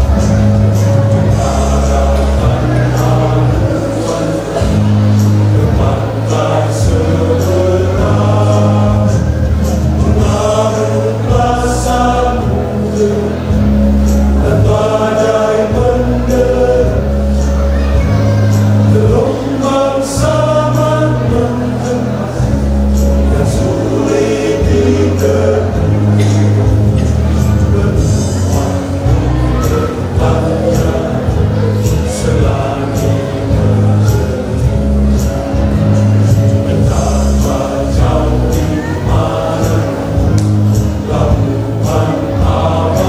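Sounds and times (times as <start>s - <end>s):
church choir singing: 0.0s - 43.0s
instrumental accompaniment with bass: 0.0s - 43.0s.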